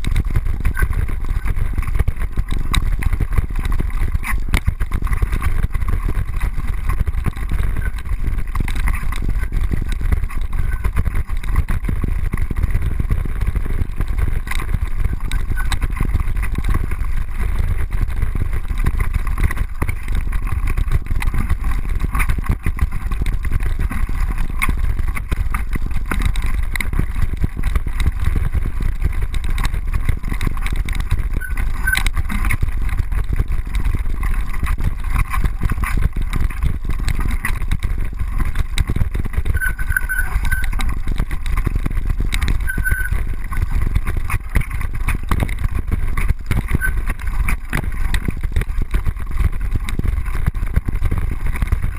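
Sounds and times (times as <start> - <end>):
bike rumble over rough ground: 0.0 - 51.9.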